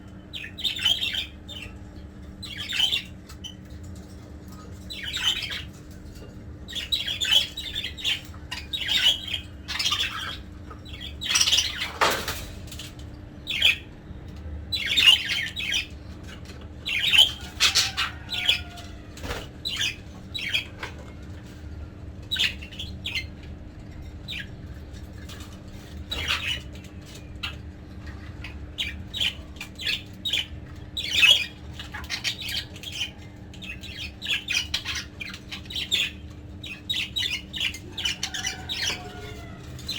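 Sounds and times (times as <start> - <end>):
steady low hum: 0.0 - 39.9
budgerigars squawking and chirping: 0.2 - 39.9.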